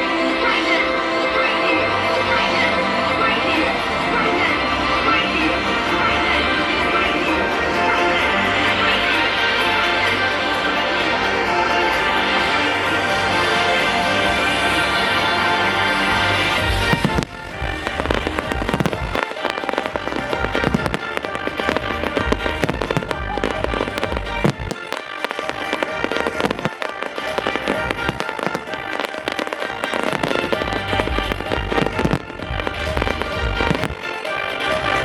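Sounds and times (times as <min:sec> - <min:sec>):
music: 0:00.0 - 0:35.0
fireworks bursting and crackling: 0:03.3 - 0:35.0.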